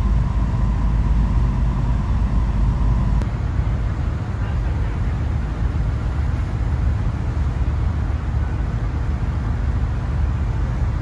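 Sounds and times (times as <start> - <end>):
ship low rumble and rushing: 0.0 - 11.0.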